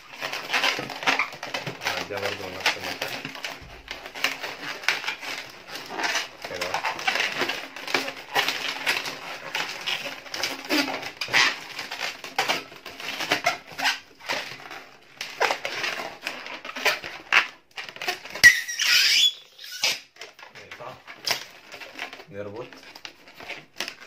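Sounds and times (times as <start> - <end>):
balloons squeaking and rubbing: 0.0 - 24.0.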